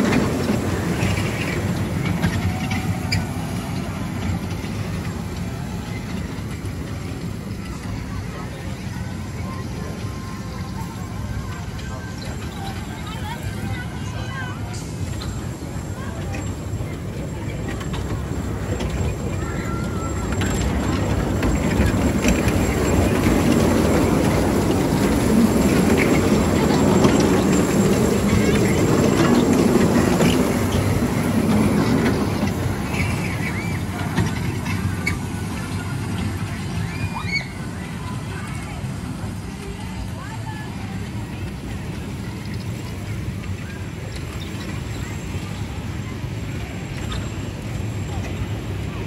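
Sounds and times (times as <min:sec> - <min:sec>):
train rumbling on track: 0:00.0 - 0:49.0.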